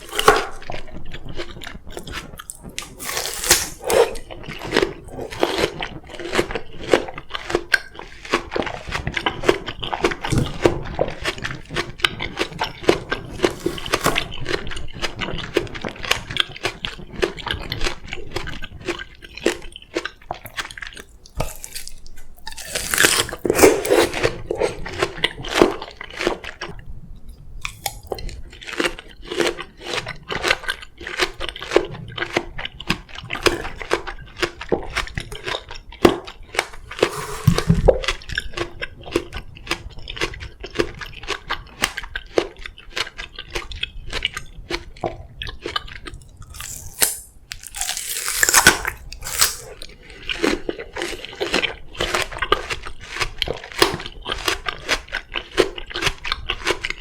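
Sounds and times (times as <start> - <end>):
crunching and chewing melon: 0.0 - 26.9, 27.6 - 57.0.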